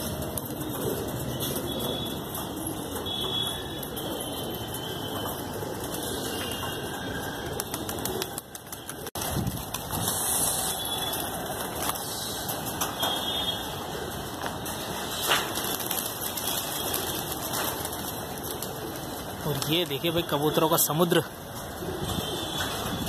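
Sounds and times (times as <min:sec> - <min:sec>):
pigeon wings flapping: 0:00.0 - 0:20.2
rushing outdoor noise: 0:00.0 - 0:23.0.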